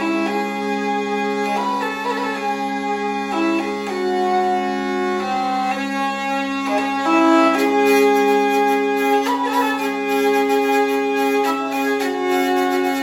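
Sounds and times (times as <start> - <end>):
hurdy-gurdy melody: 0.0 - 13.0.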